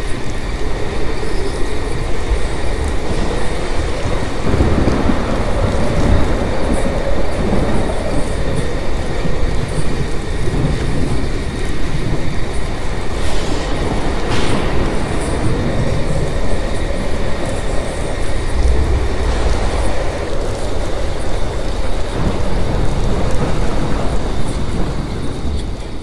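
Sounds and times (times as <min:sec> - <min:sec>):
hiss: 0:00.0 - 0:26.0
loud rumble of thunder: 0:00.0 - 0:26.0.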